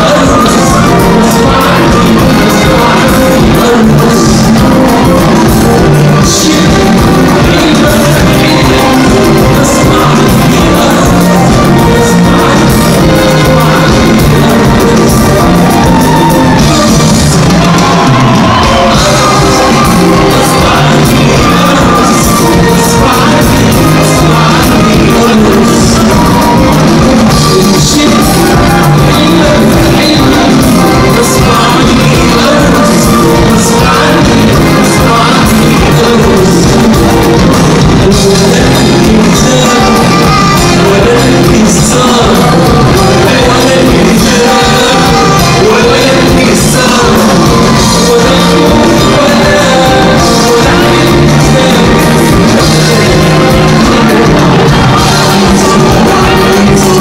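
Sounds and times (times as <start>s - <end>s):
drum kit: 0.0s - 57.0s
electric guitar: 0.0s - 57.0s
live band playing: 0.0s - 57.0s
man singing: 0.0s - 57.0s.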